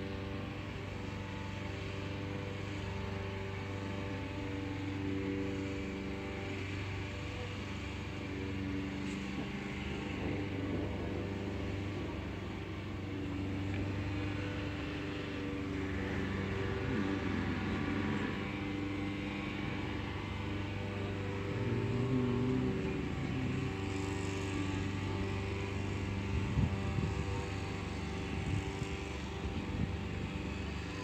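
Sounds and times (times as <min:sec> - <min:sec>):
motor humming: 0:00.0 - 0:31.0.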